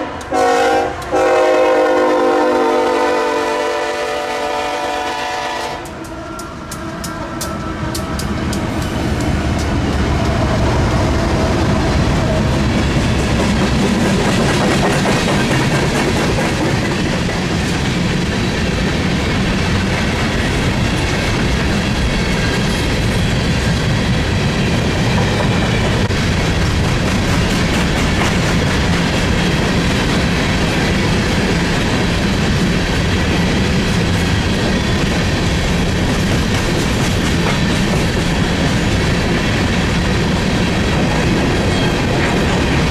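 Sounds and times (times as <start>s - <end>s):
freight train passing: 0.0s - 42.9s.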